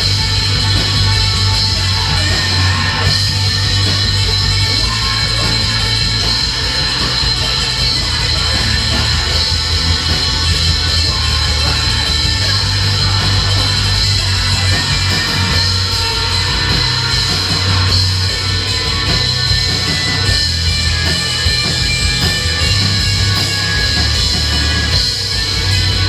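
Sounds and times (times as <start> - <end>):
live heavy rock band: 0.0 - 26.0.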